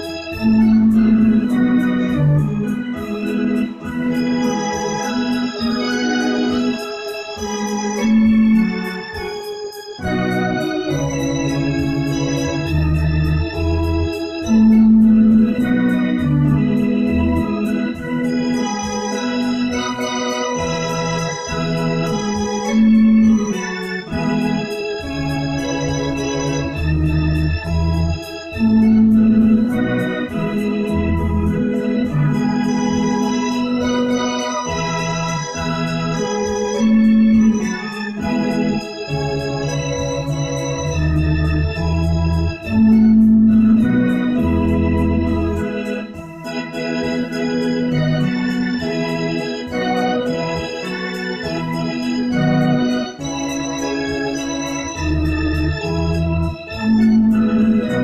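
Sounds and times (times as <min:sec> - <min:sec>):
electronic organ chords and bass: 0:00.0 - 0:58.0.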